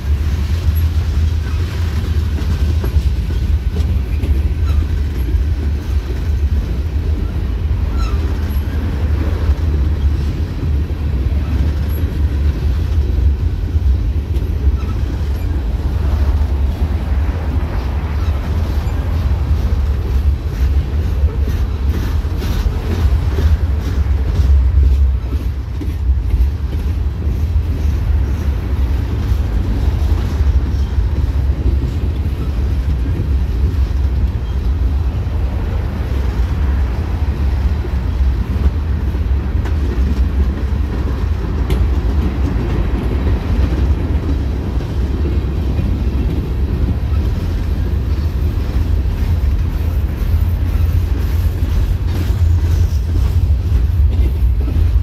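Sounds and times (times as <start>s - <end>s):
train wheels rumbling on rail: 0.0s - 55.0s
wheels clicking over rail joints: 0.0s - 55.0s.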